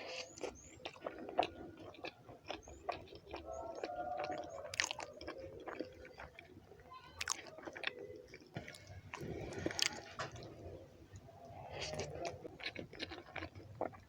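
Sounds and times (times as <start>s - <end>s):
close-up chewing: 0.0s - 14.0s.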